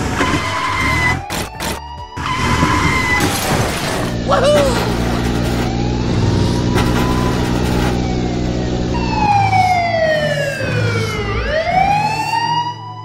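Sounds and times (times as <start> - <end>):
car engine drone: 0.0 - 13.0
police siren wailing: 0.0 - 13.0.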